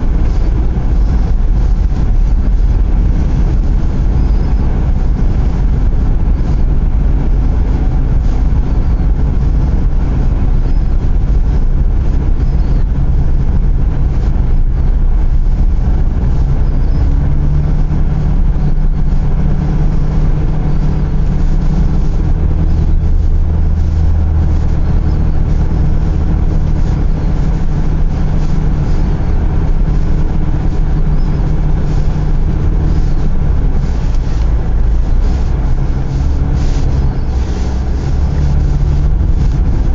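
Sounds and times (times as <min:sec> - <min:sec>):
road noise: 0:00.0 - 0:39.9
vehicle engine rumble inside cabin: 0:00.0 - 0:39.9.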